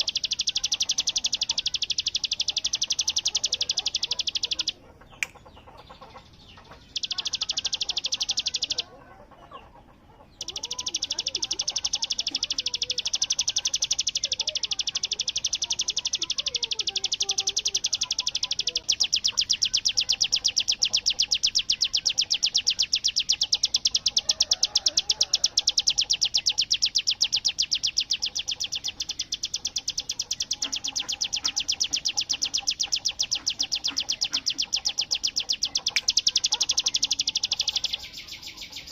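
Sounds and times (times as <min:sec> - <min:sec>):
faint bird chirps: 0:00.0 - 0:38.9.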